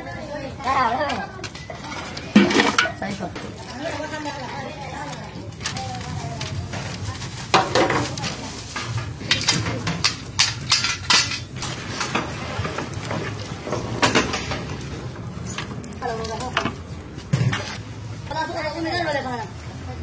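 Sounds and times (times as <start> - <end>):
metal ladles clanking on pots: 0.7 - 17.9.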